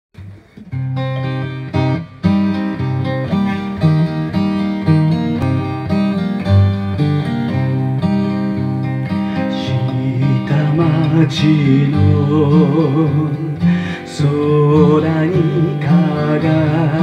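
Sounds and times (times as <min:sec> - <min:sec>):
acoustic guitar playing: 0:00.2 - 0:17.0.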